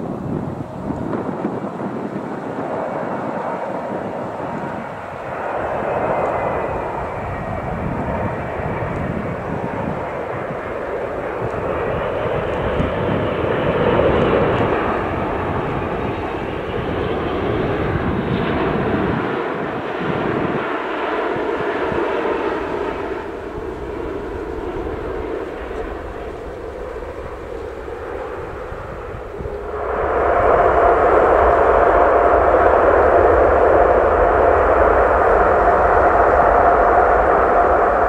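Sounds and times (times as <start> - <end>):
jet airliner landing: 0.0 - 38.0.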